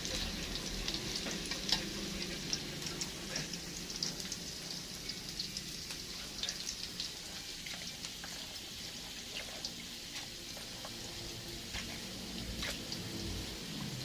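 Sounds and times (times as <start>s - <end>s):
spice paste sizzling in pan: 0.0s - 14.0s.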